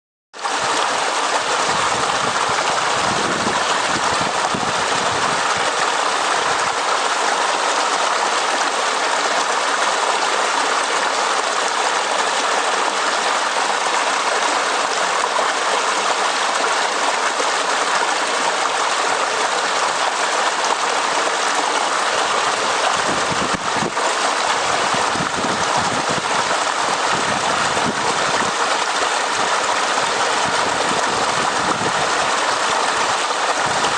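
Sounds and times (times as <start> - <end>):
stream running over rocks: 0.4 - 33.9.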